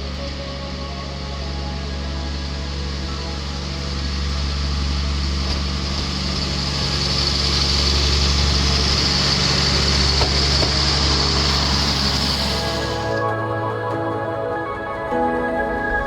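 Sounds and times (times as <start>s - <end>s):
engine idling: 0.0s - 13.7s.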